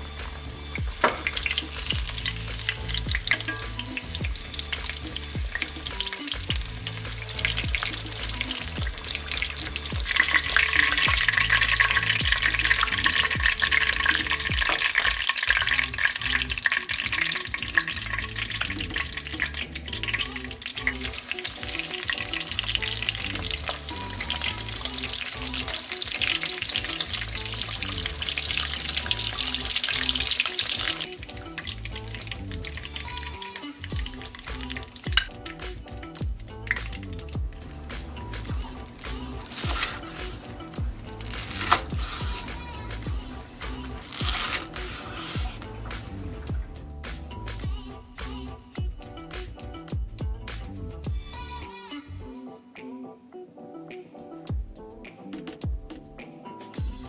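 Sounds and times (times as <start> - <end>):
food deep-frying in hot oil: 0.0 - 48.4.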